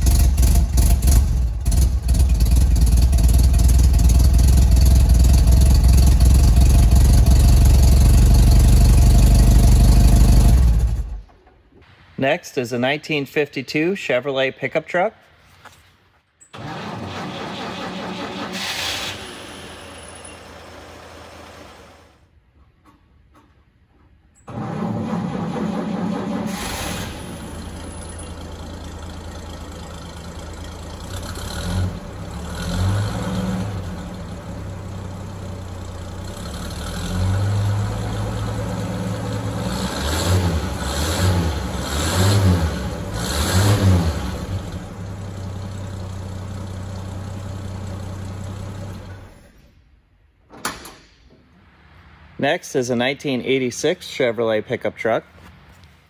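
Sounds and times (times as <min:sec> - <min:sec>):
truck engine starting and idling: 0:00.0 - 0:11.8, 0:16.4 - 0:55.8.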